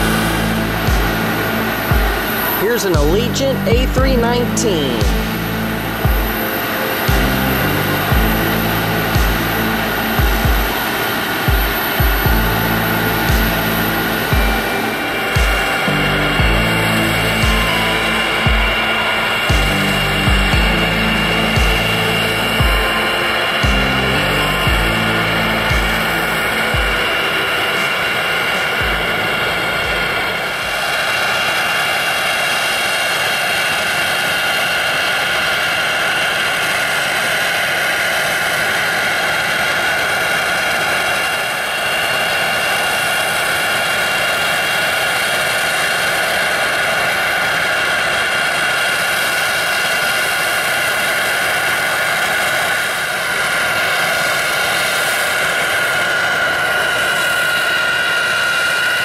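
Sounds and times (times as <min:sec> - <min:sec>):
jet turbines rushing and whining: 0:00.0 - 0:59.0.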